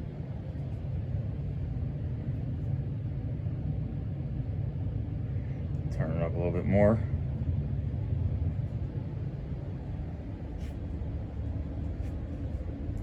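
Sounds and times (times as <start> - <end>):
ceiling fan running: 0.0 - 13.0.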